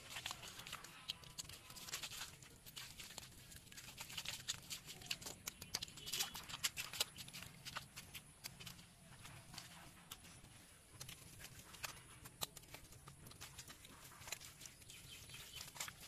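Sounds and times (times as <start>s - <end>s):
bare feet squelching in mud: 0.0s - 16.0s
hands squelching in mud: 0.0s - 16.0s.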